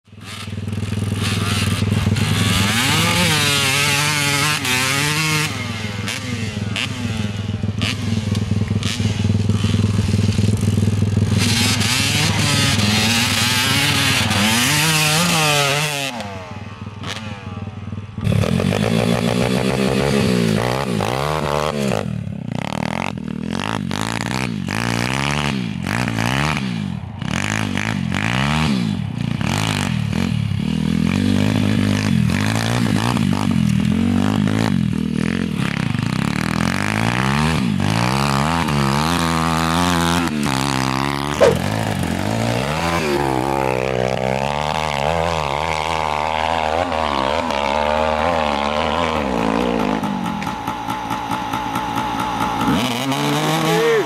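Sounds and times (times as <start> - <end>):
motorbike engines revving: 0.1 - 54.0.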